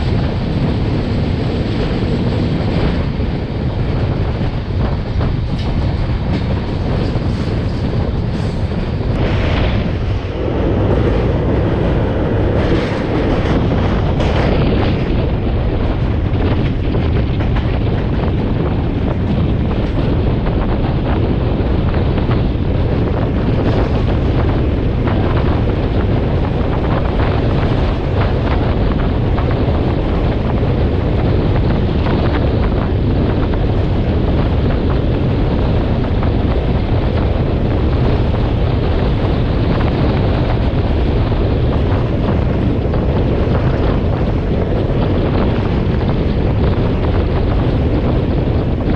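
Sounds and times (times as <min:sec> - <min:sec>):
moving train running noise: 0:00.0 - 0:48.9
wind buffeting microphone: 0:00.0 - 0:48.9.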